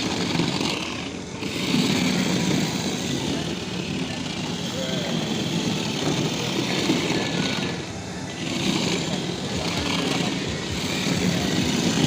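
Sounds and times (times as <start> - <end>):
vehicle rumble and hiss: 0.0 - 12.0.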